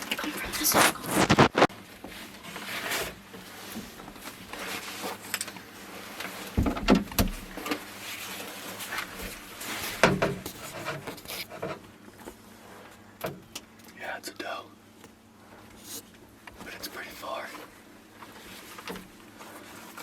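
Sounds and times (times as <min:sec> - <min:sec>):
rustling and shuffling: 0:00.0 - 0:13.9, 0:14.9 - 0:20.0.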